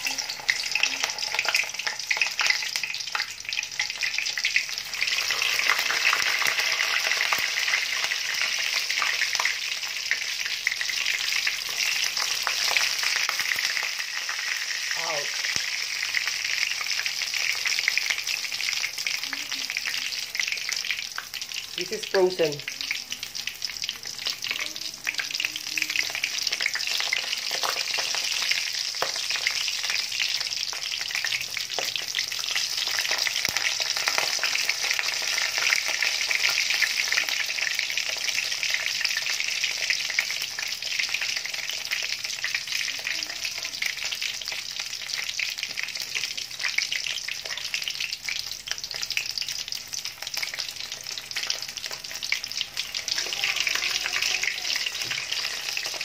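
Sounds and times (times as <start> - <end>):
oil sizzling and crackling: 0.0 - 56.0.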